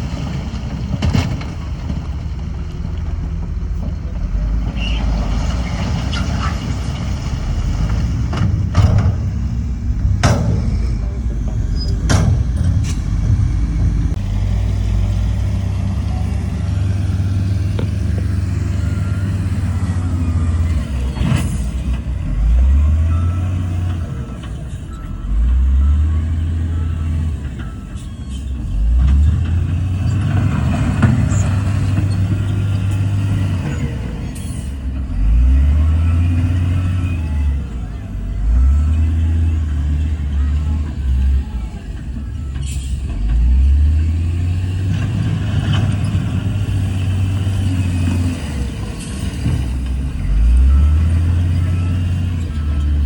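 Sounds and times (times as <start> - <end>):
heavy diesel engine under load: 0.0 - 53.0.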